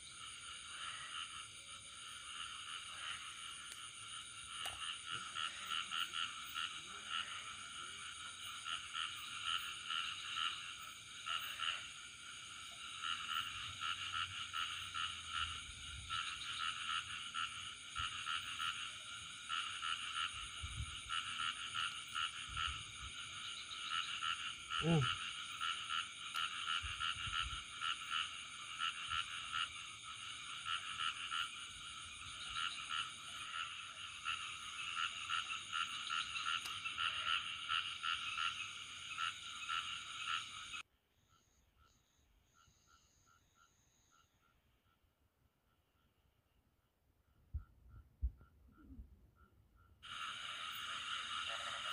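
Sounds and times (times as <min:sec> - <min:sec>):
frogs croaking: 0:00.0 - 0:51.9.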